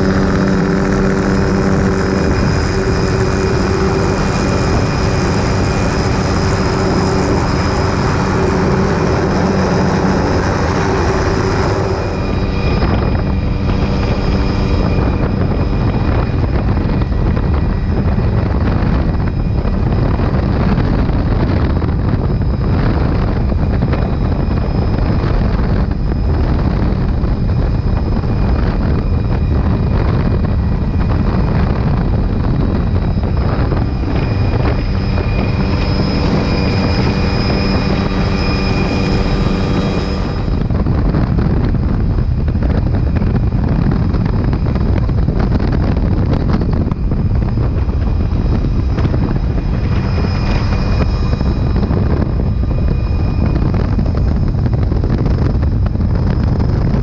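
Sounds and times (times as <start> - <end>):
helicopter rotor and turbine drone: 0.0 - 57.0
wind rushing on microphone: 0.0 - 57.0.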